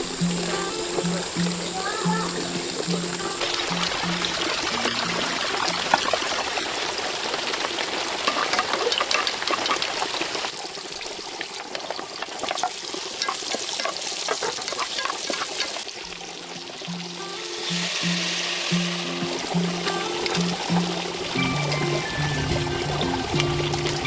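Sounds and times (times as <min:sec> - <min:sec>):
pork sizzling in hot fat: 0:00.0 - 0:24.0.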